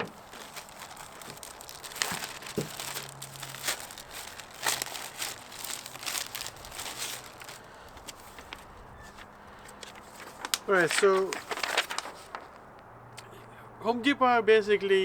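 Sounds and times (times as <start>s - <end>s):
packaging crinkling and rustling: 0.0s - 12.7s.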